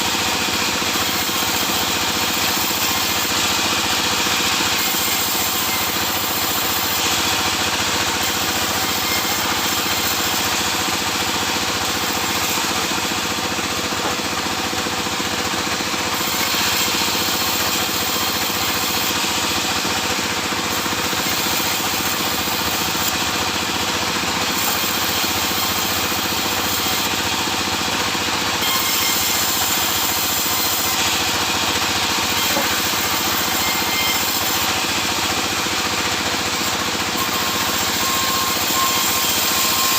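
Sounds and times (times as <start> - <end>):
sawmill machinery sawing timber: 0.0 - 39.9.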